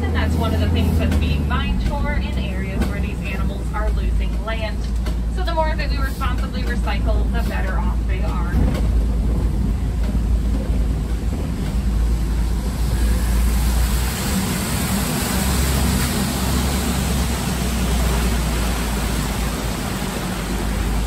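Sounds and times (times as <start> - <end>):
rushing noise: 0.0 - 21.0
truck engine and road rumble: 0.0 - 21.0.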